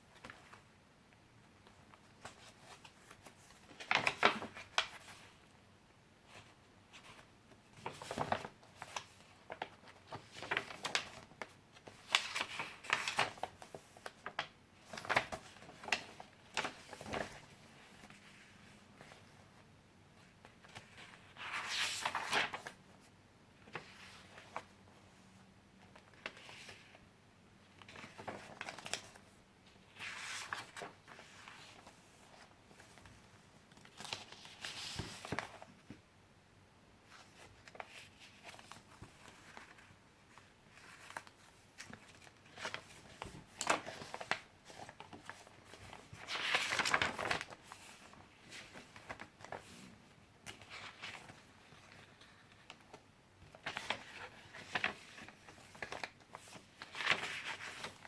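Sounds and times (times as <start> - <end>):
paper pages rustling: 1.6 - 5.4, 6.3 - 19.4, 20.5 - 24.7, 27.8 - 36.0, 37.1 - 58.0.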